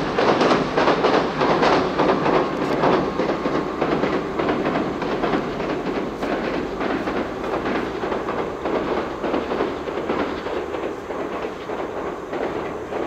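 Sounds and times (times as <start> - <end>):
train wheels clattering over rail joints: 0.0 - 13.0.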